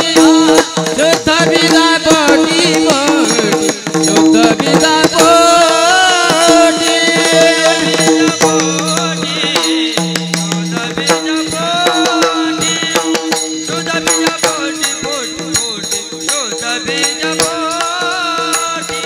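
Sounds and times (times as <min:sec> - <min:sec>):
drum rhythm: 0:00.0 - 0:19.0
person singing: 0:00.0 - 0:19.0.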